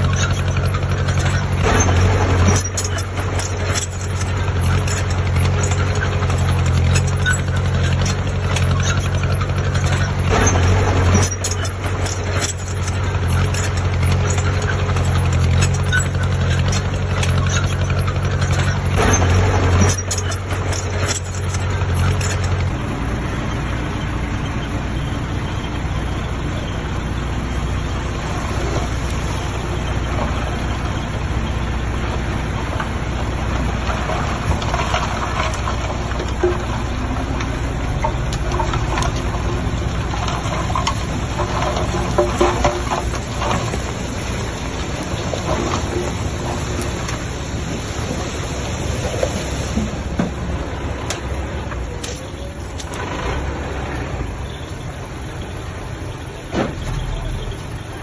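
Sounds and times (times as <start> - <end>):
diesel engine drone: 0.0 - 58.0
machinery clanks and rattles: 0.0 - 58.0.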